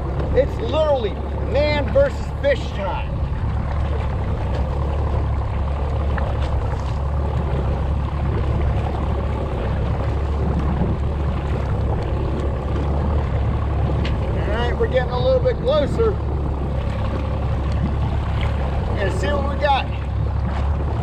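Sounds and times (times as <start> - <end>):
boat motor rumbling: 0.0 - 21.0
water noise: 0.0 - 21.0
wind: 0.0 - 21.0.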